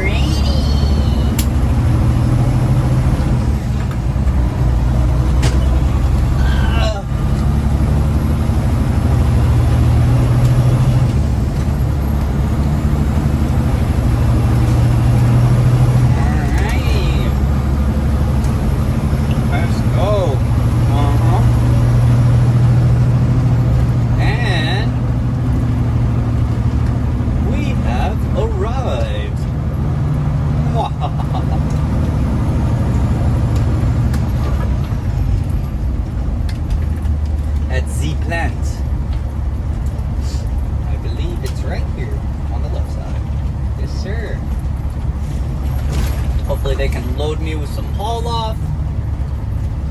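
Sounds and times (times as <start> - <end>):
road noise: 0.0 - 49.9
truck diesel engine running: 0.0 - 49.9.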